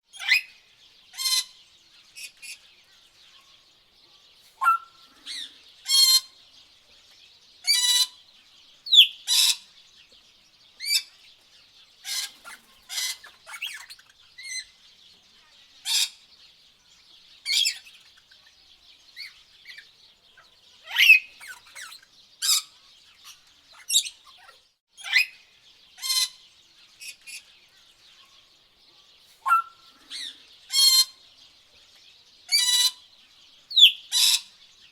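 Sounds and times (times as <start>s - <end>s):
birds chirping and whistling: 0.1s - 3.6s, 4.2s - 6.7s, 7.6s - 34.9s.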